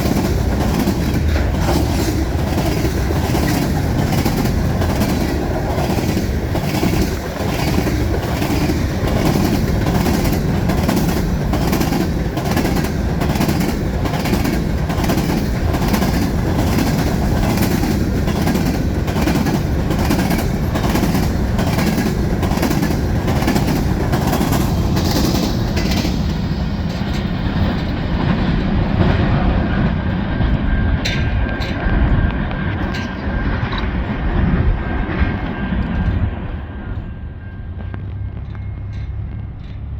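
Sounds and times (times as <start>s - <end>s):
heavy train rumble: 0.0s - 39.9s
train wheels clicking over rail joints: 0.0s - 39.9s.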